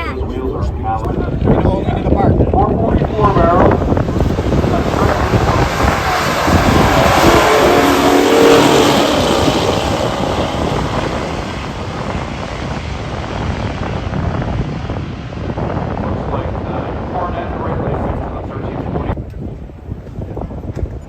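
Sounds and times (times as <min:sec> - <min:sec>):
car engine at full throttle: 0:01.0 - 0:19.2.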